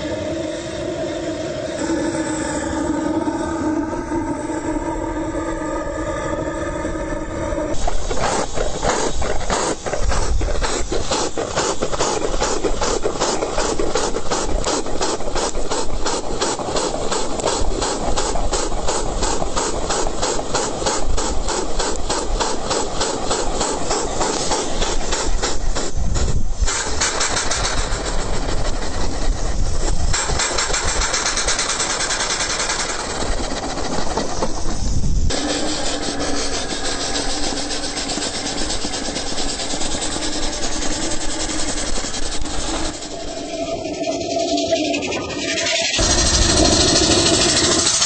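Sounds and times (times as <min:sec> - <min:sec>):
engine chuffing hissing puffs: 0:07.6 - 0:48.0.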